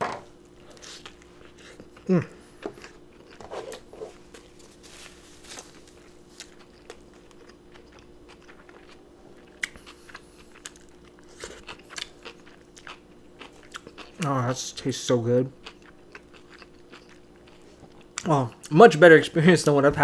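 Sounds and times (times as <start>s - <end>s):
person chewing food: 0.4s - 14.3s, 15.6s - 18.7s.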